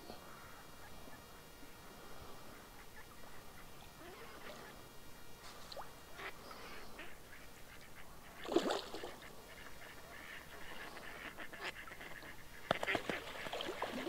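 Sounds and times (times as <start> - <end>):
waterfowl calling: 0.2 - 14.0.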